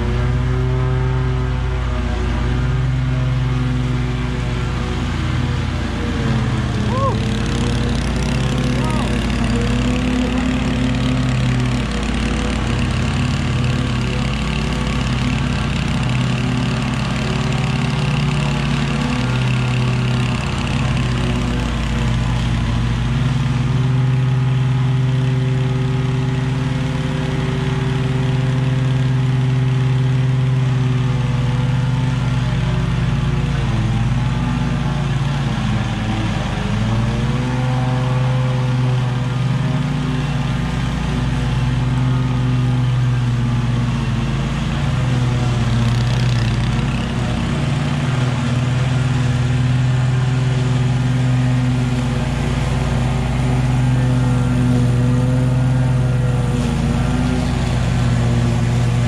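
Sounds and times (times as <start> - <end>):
string trimmers cutting grass: 0.0 - 59.0.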